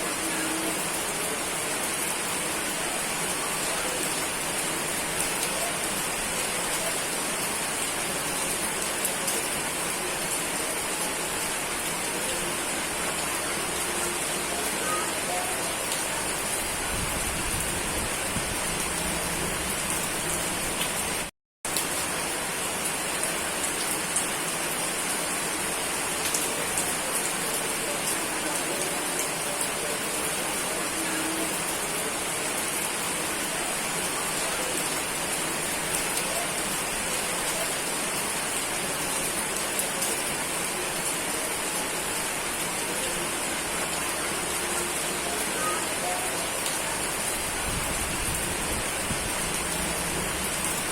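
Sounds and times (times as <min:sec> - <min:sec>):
heavy rain pattering: 0:00.0 - 0:50.9.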